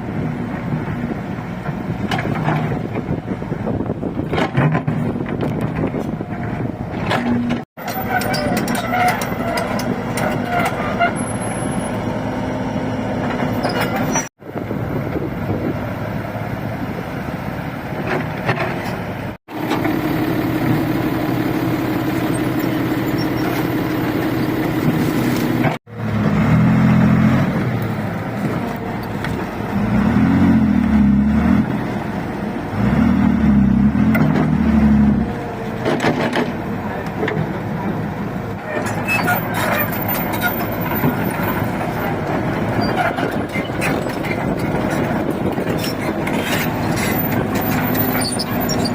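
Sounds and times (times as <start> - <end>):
heavy diesel engine running: 5.1 - 48.9.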